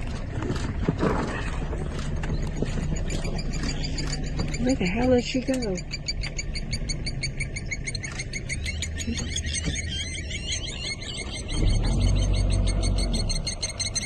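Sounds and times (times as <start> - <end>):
birds chirping: 1.4 - 14.0.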